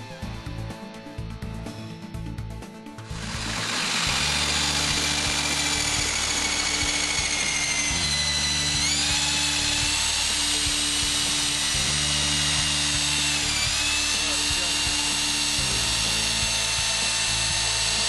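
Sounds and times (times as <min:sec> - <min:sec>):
background music: 0:00.0 - 0:18.0
drill spinning paddle mixer: 0:03.0 - 0:18.0.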